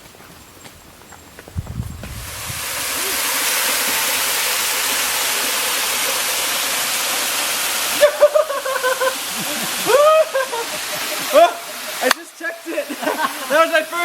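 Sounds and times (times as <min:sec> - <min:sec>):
waterfall rushing: 0:02.1 - 0:14.0.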